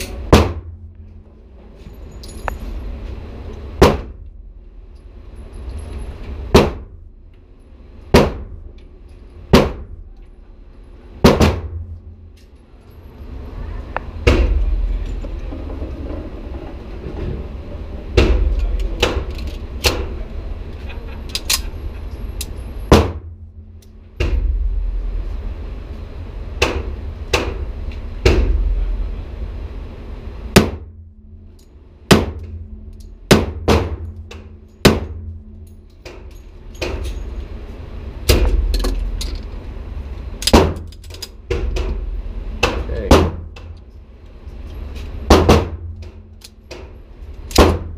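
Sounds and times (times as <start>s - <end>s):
low rumble: 0.0s - 47.9s.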